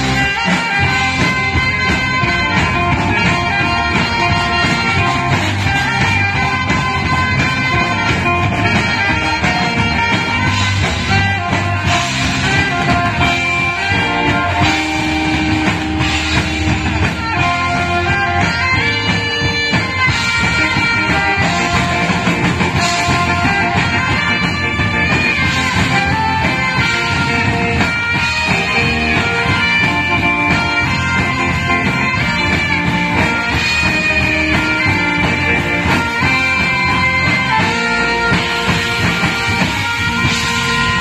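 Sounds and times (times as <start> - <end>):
band music: 0.0 - 41.0
trumpet melody: 0.0 - 41.0.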